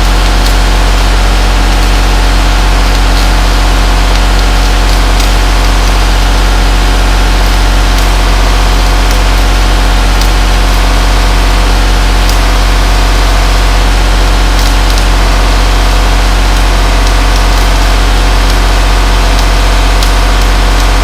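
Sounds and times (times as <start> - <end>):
welding machine humming: 0.0 - 21.0.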